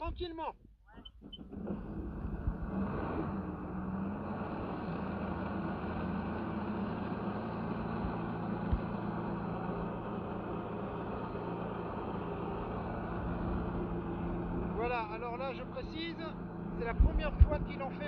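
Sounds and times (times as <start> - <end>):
jet ski engine running: 1.1 - 18.0.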